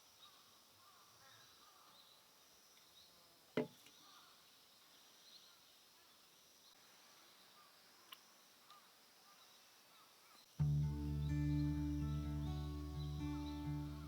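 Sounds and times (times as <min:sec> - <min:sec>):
faint high hiss: 0:00.0 - 0:14.0.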